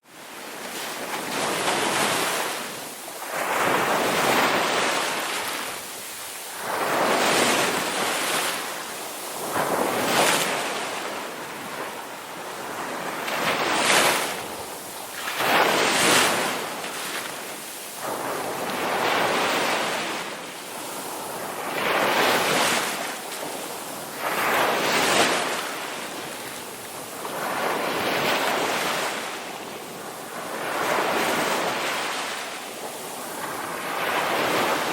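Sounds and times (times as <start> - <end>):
ocean waves crashing on shore: 0.0 - 34.9.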